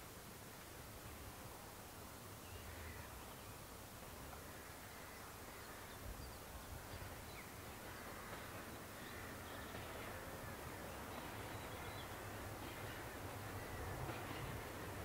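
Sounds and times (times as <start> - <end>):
distant locomotive engine rumble: 0.0 - 15.0
faint birds calling: 2.4 - 15.0.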